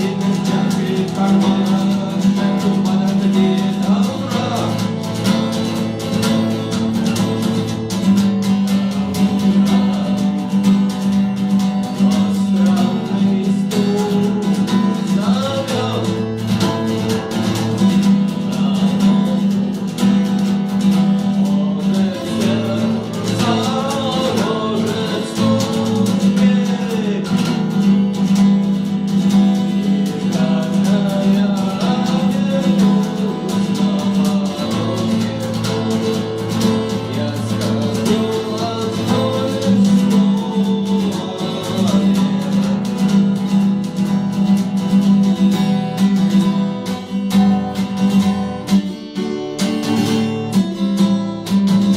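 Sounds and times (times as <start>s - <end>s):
guitar rock music: 0.0s - 51.9s.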